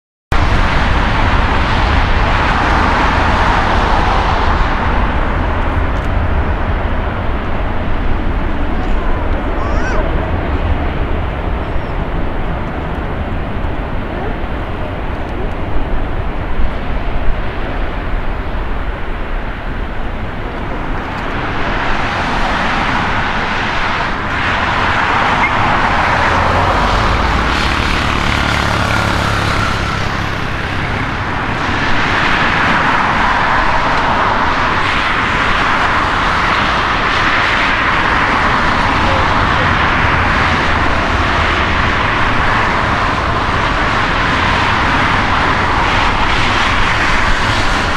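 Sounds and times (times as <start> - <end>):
jet engines roaring: 0.3 - 47.9.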